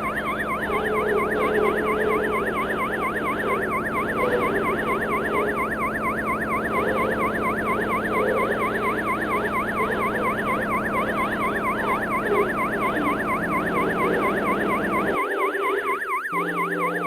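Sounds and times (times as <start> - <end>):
yelping siren: 0.0 - 17.0.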